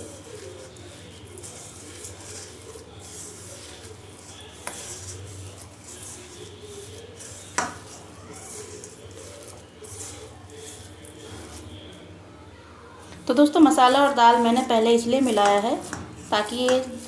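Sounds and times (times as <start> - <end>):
hands kneading dough in a steel plate: 0.0 - 12.3, 13.0 - 17.0.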